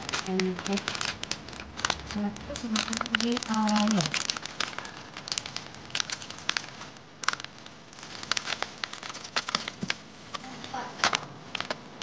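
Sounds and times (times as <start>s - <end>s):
packet crinkling and crackling: 0.0s - 12.0s.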